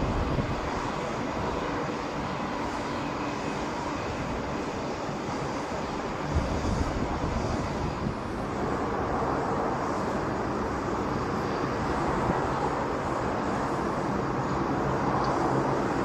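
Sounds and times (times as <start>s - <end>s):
jet airliner engines: 0.0s - 16.0s.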